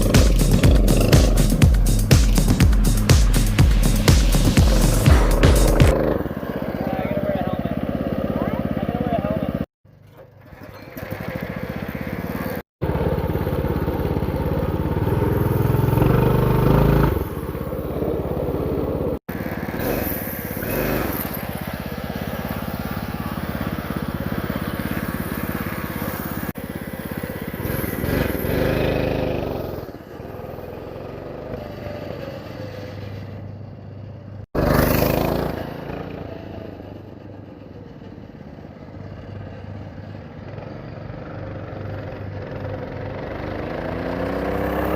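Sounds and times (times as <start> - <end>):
mini bike engine revving: 0.0 - 1.6, 5.8 - 33.8, 34.5 - 44.9.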